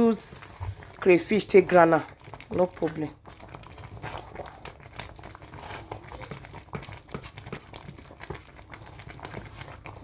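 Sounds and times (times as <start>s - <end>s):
wooden spoon stirring in metal pot: 0.0s - 10.0s.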